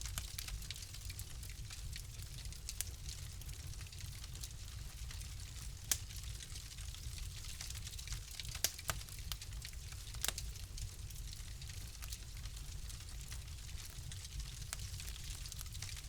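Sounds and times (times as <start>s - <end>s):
fire low rumble and hiss: 0.0s - 16.0s.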